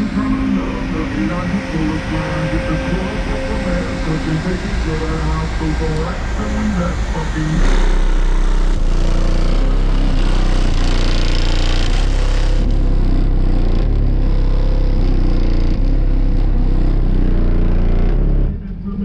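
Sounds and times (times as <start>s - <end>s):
distorted deep subwoofer bass: 0.0s - 19.0s
hip-hop from car audio system: 0.0s - 19.0s.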